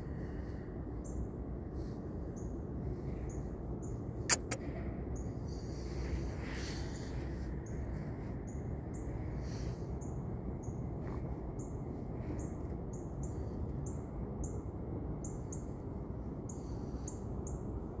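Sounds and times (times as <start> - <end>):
low outdoor rumble: 0.0 - 18.0
small bird chirping: 1.0 - 1.3, 2.3 - 15.8, 16.4 - 17.7.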